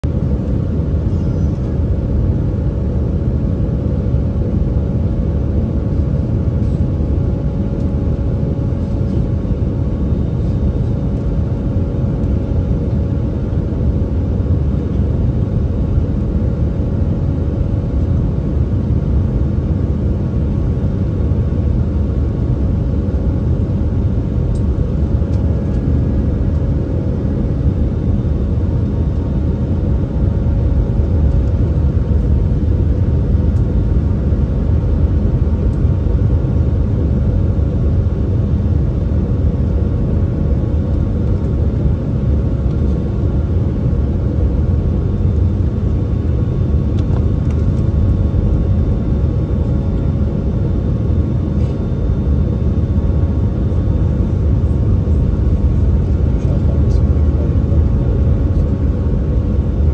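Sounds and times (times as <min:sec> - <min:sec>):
engine and airflow rumble: 0:00.0 - 0:59.9
faint steady hum: 0:00.0 - 0:59.9.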